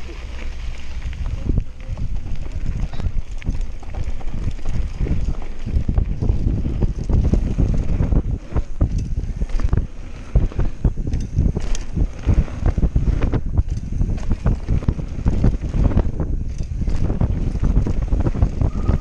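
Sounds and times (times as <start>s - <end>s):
bike rattling and knocking: 0.0s - 19.0s
bike rolling on gravel: 0.0s - 19.0s
wind buffeting microphone: 0.0s - 19.0s.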